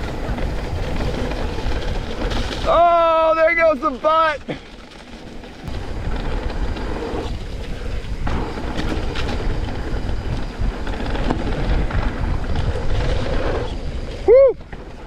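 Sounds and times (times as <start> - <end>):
tyres rolling on wet dirt: 0.0 - 15.0
wind over microphone: 0.0 - 15.0.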